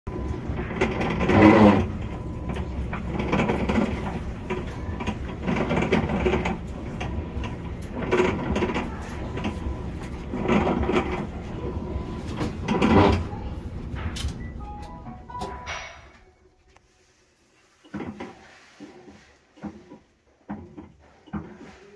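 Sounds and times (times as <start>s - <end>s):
washing machine grinding: 0.1s - 21.9s.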